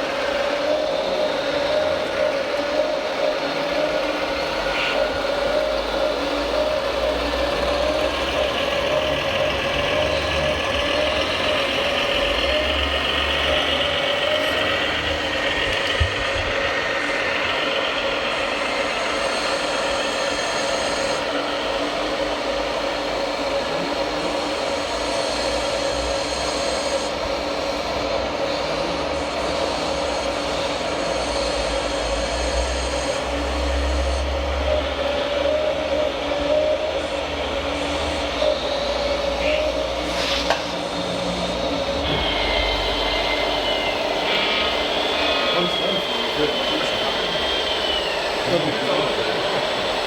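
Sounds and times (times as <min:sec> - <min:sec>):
higher motor whine: 0:00.0 - 0:50.0
model truck motors whining: 0:00.0 - 0:50.0.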